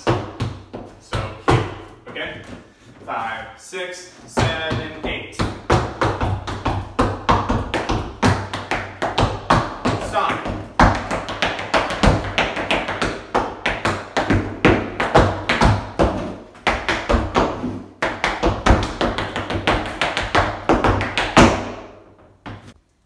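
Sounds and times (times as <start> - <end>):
tap shoes on dance floor: 0.0 - 3.1, 4.2 - 22.8.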